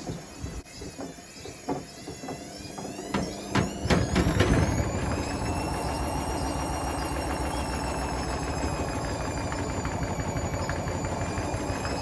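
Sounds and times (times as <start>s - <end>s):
washing machine motor whine: 0.0s - 12.0s.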